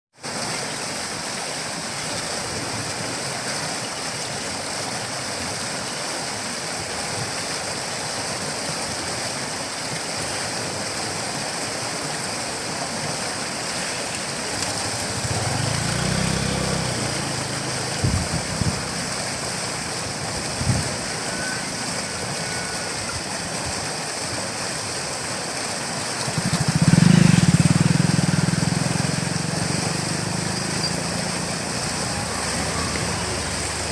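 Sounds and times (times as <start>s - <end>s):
river water rushing: 0.2s - 33.9s.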